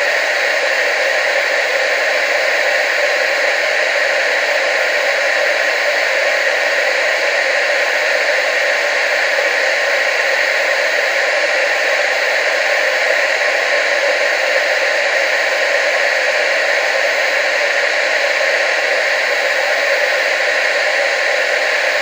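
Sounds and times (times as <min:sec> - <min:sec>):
television static hiss: 0:00.0 - 0:22.0.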